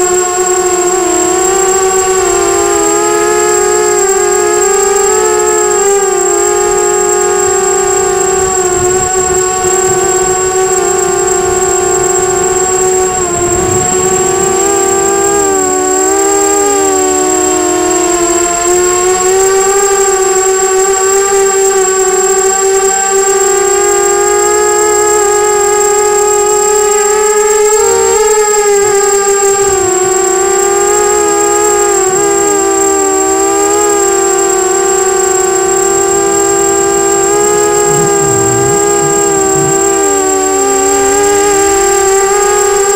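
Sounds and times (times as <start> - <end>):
drone motors whining: 0.0 - 22.1, 23.3 - 42.9
thin constant high tone: 0.6 - 42.9.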